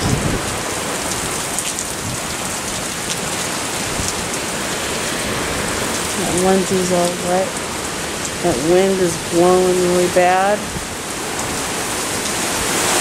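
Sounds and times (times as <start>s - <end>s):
heavy rain on wooden deck: 0.0s - 13.0s.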